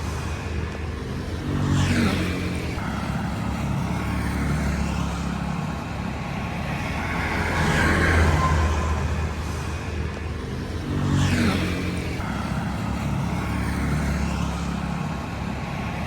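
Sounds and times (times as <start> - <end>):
vehicle engines running: 0.0 - 16.0
vehicle passing: 0.0 - 16.0.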